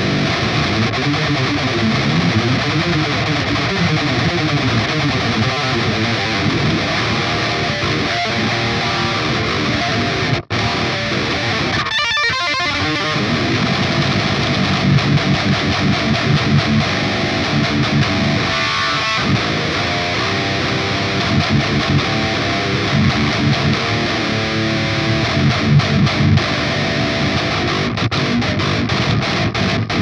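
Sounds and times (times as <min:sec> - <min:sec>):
distorted electric guitar riffs: 0:00.0 - 0:30.0.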